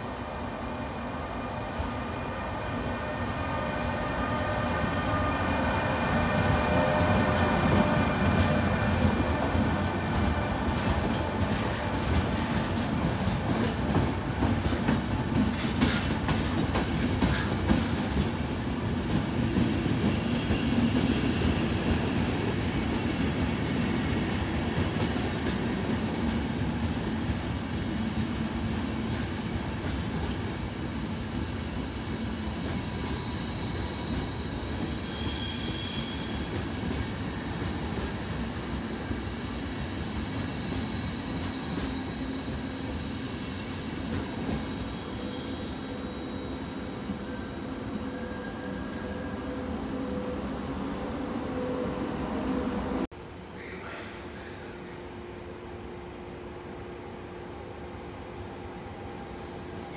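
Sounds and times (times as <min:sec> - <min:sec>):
train coaches rumbling: 0:00.0 - 0:55.5.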